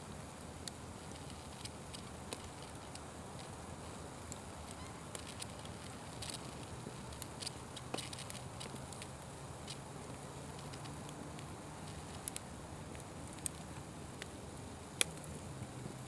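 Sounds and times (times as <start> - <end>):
wood fire crackling: 0.0 - 16.0
fire pops and snaps: 0.6 - 15.5.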